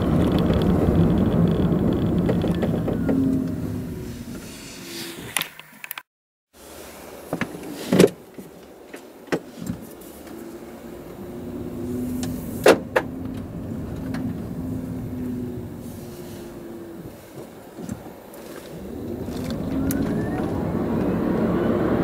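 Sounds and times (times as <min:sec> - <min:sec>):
tyre and road noise: 0:00.0 - 0:22.0.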